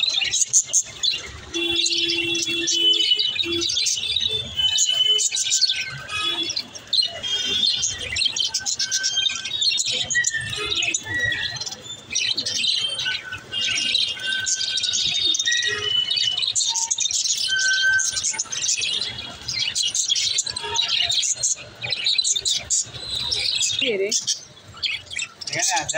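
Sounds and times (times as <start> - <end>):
budgerigars chirping: 0.0 - 25.9.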